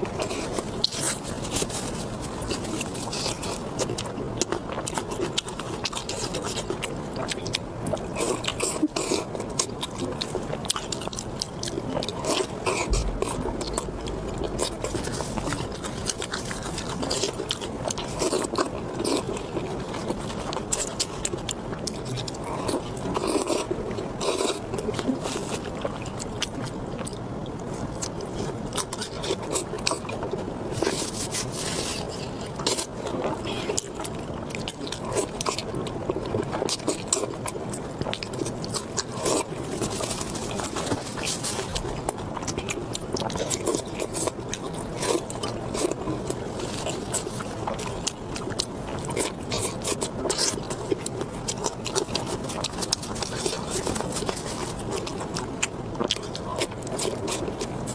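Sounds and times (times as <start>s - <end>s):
person biting and chewing food: 0.0s - 57.9s.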